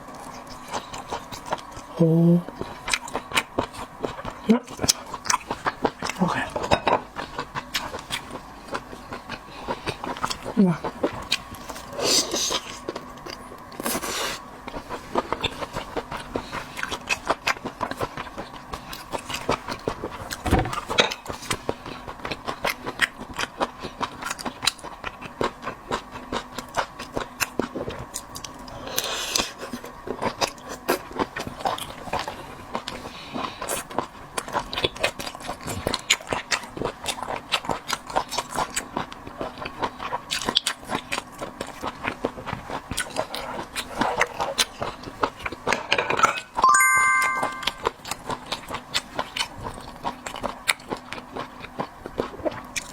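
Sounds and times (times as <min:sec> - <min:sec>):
person chewing wetly: 0:00.0 - 0:01.9, 0:02.5 - 0:46.0, 0:48.0 - 0:52.9.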